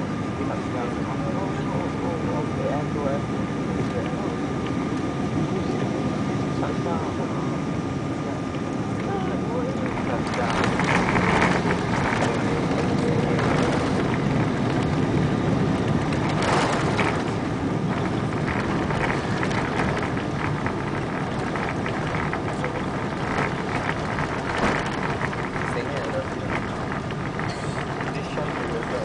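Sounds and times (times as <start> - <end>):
aircraft cabin engine and airflow noise: 0.0 - 29.0.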